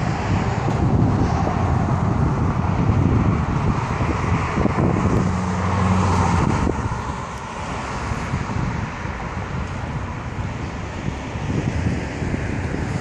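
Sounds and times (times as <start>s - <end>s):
car engine passing: 0.0s - 13.0s
road and traffic noise: 0.0s - 13.0s.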